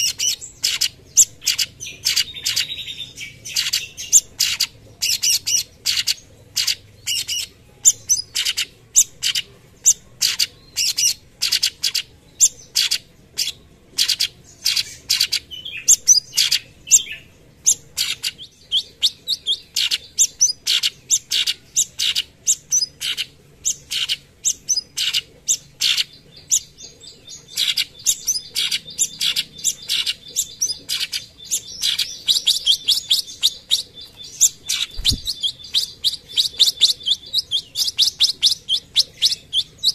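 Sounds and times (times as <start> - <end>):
bird singing sharp chipping notes: 0.0 - 39.9.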